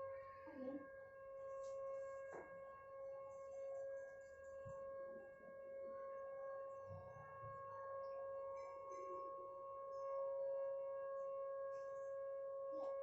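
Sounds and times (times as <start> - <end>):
faint steady siren: 0.0 - 13.0.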